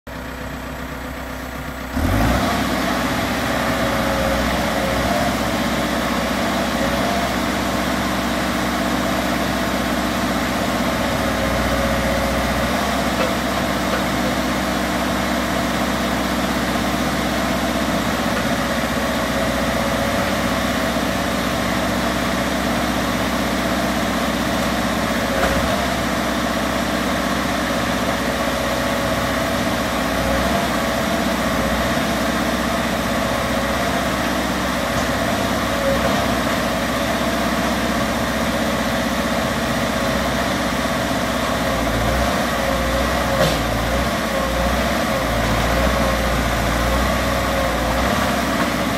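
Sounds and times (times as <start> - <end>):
diesel engine running at low revs: 0.1 - 48.9.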